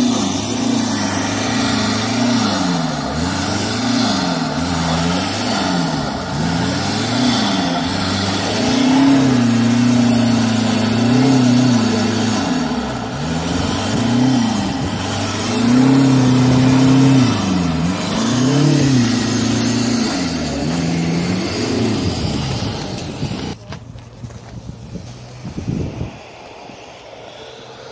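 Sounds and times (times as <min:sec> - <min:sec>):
car engine revving: 0:00.0 - 0:23.6
tyres spinning in snow: 0:00.0 - 0:27.9.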